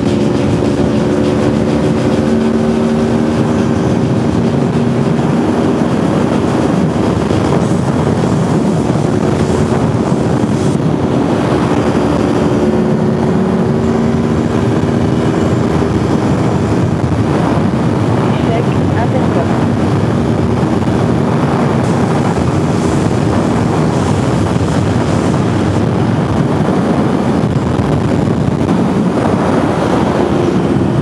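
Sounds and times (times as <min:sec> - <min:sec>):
motorcycle engine at high speed: 0:00.0 - 0:31.0
wind rush on microphone: 0:00.0 - 0:31.0.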